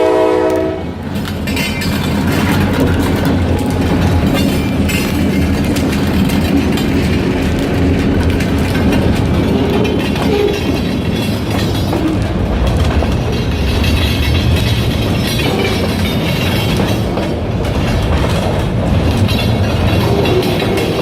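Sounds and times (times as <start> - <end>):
freight train wheels clacking: 0.0 - 21.0.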